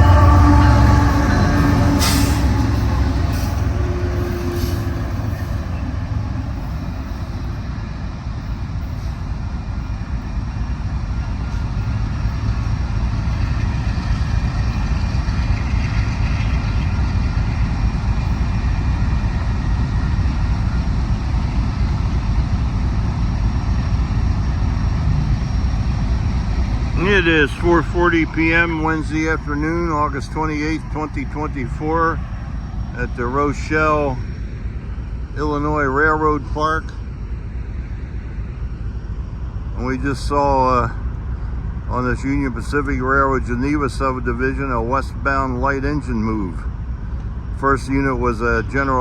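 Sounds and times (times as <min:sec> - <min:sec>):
diesel locomotives rumbling: 0:00.0 - 0:49.0.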